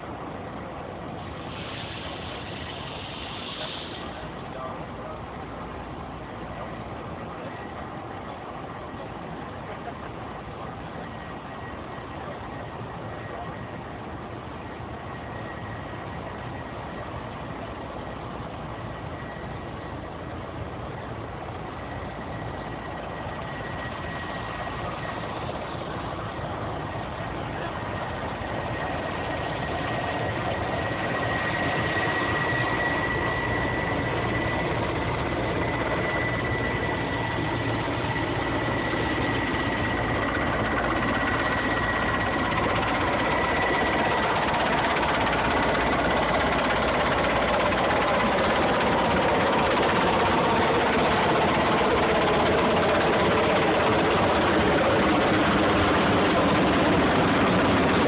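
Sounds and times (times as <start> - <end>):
helicopter rotor and turbine drone: 0.0 - 58.0
thin high whine: 0.0 - 58.0.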